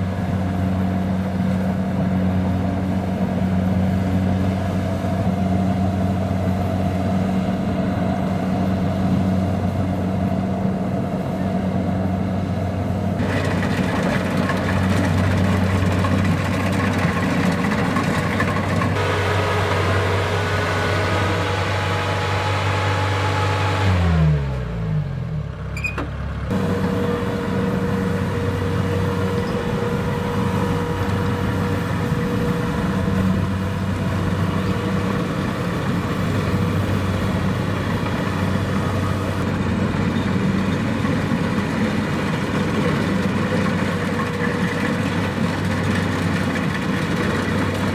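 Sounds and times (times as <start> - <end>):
combine harvester diesel engine: 0.0 - 47.9.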